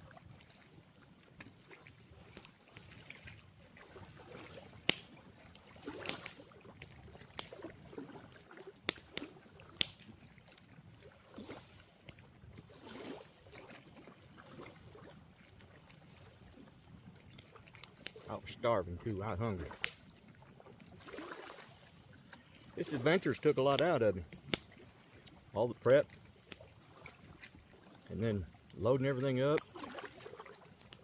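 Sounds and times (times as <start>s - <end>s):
night insect trill: 0.0s - 31.0s.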